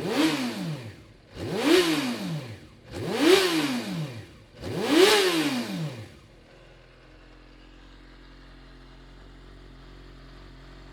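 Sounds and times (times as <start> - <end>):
motorcycle engine revving and idling: 0.0 - 10.9.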